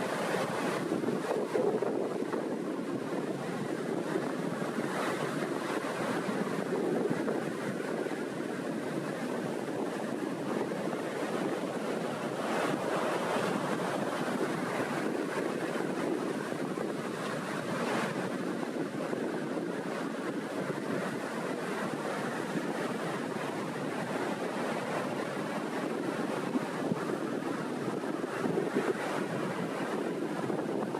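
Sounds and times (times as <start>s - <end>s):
sea waves breaking on shore: 0.0s - 30.9s
wind buffeting microphone: 0.0s - 30.9s.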